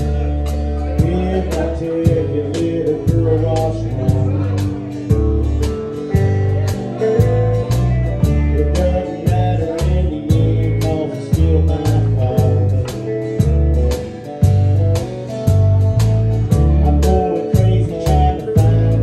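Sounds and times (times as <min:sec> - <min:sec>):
acoustic guitar: 0:00.0 - 0:19.0
electric bass guitar: 0:00.0 - 0:19.0
steady beat: 0:00.0 - 0:19.0.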